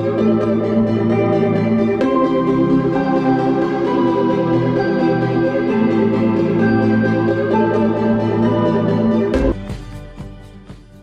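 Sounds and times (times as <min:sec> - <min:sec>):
slow ambient keyboard chords: 0:00.0 - 0:09.6.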